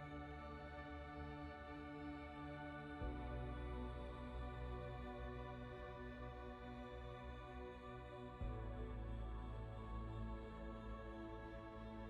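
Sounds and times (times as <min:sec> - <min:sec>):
soft ambient chords: 0:00.0 - 0:12.0.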